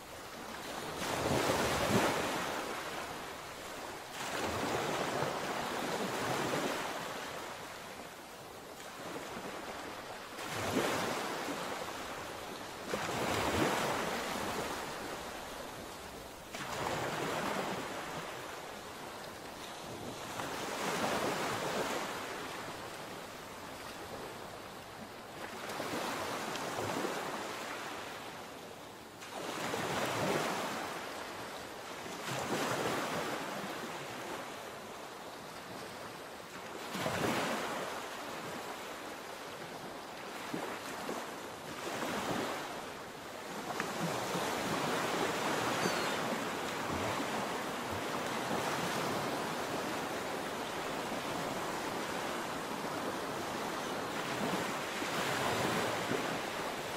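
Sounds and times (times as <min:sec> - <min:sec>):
waves breaking on beach: 0:00.0 - 0:56.9.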